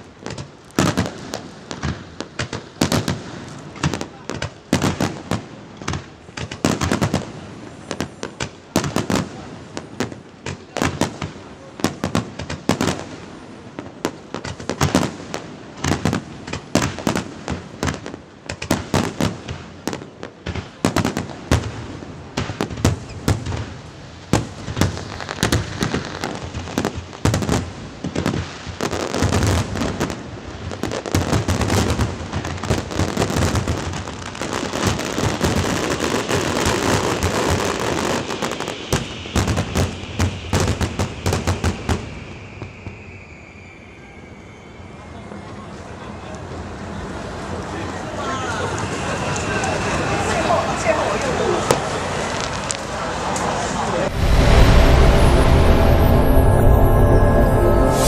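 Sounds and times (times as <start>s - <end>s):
fireworks crackling barrage: 0.0s - 58.0s.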